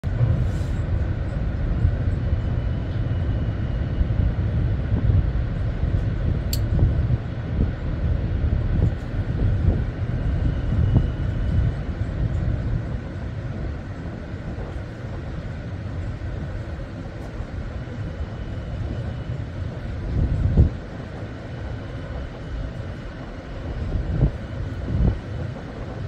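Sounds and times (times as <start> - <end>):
low rumble on ship's deck: 0.0 - 26.0.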